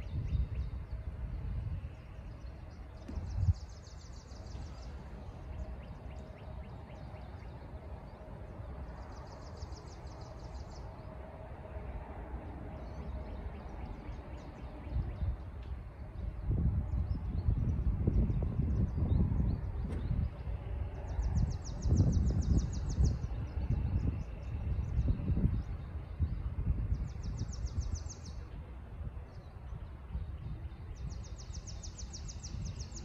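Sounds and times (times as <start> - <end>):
low rumble: 0.0 - 31.4.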